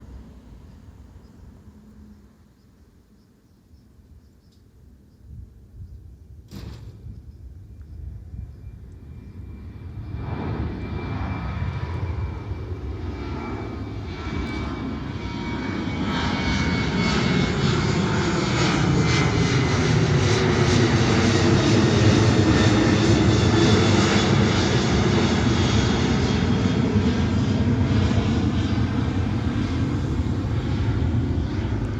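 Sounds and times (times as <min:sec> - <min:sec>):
jet airliner flying past: 0:00.0 - 0:31.9.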